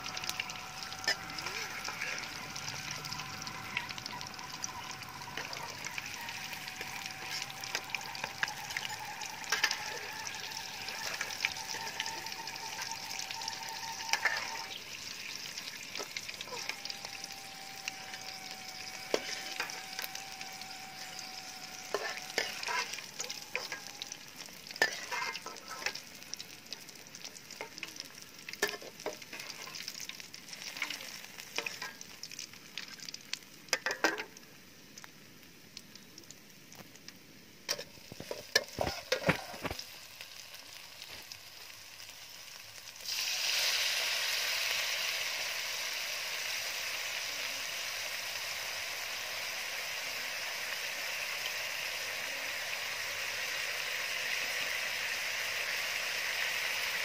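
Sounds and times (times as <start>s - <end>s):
hot oil sizzling in a wok: 0.0s - 57.0s
oil crackles and pops: 0.0s - 57.0s.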